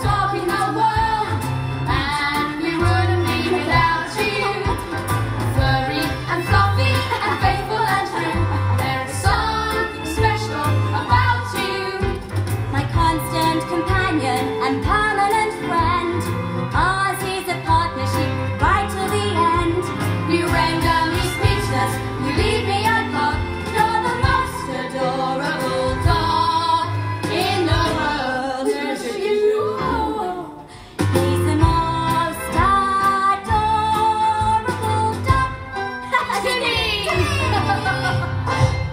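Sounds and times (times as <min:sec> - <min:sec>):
band accompaniment with bass line: 0:00.0 - 0:38.9.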